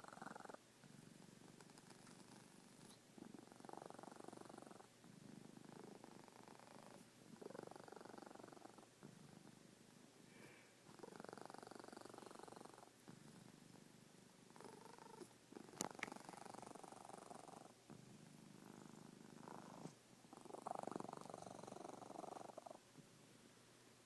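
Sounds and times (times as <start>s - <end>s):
cat snoring faintly: 0.0s - 23.4s.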